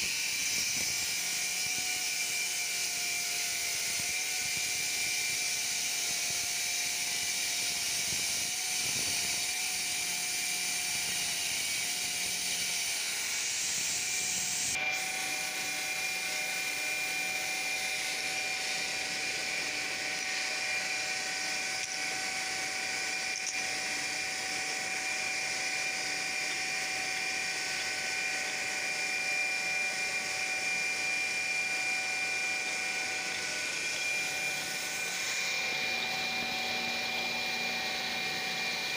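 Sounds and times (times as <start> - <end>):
stone-cutting saw whining: 0.0 - 38.9.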